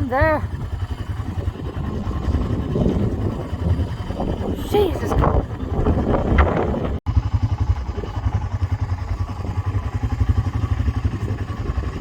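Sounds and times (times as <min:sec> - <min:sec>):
atv engine rumbling: 0:00.0 - 0:12.0.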